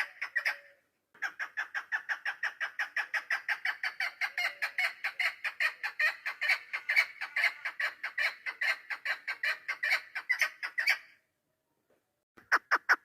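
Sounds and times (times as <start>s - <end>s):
partridge clucking call: 0.0s - 11.0s, 12.4s - 13.0s.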